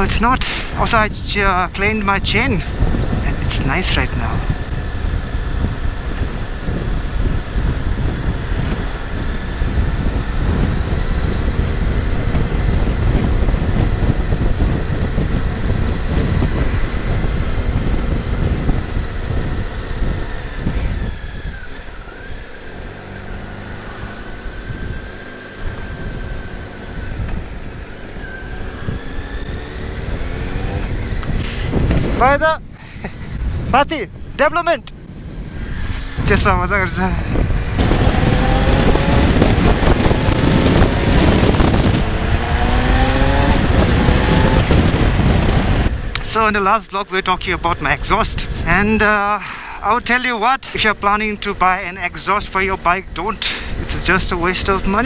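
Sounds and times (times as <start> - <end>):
motorcycle engine running: 0.0 - 46.7, 50.8 - 55.0
wind noise on microphone: 0.0 - 55.0.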